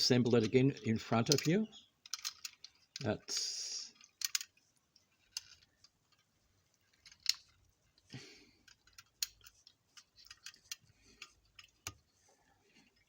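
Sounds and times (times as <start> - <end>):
plastic parts clicking and tapping: 0.3 - 3.2, 3.9 - 12.1.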